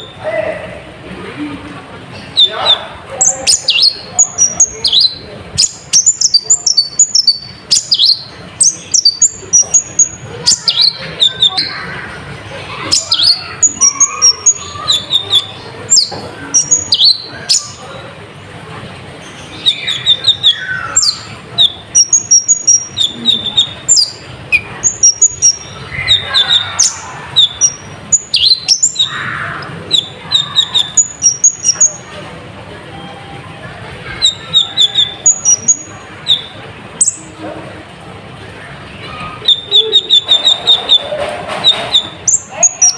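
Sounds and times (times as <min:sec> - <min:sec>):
bird high-pitched chirps: 0:02.2 - 0:17.9, 0:19.2 - 0:32.2, 0:34.1 - 0:37.3, 0:39.0 - 0:42.9.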